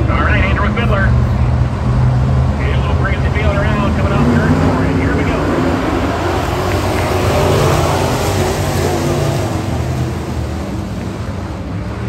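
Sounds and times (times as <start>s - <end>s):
race truck engines: 0.0s - 12.0s.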